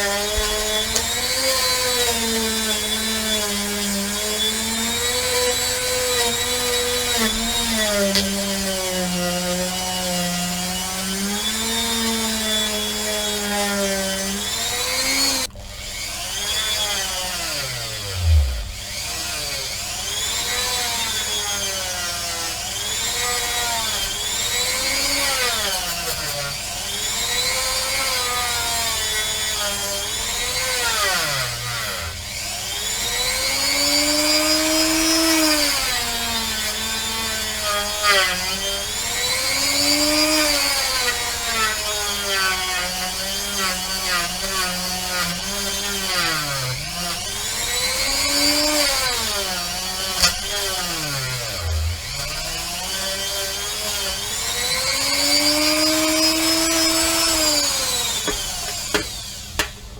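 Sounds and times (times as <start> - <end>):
rotary tool motor whine: 0.0 - 59.7.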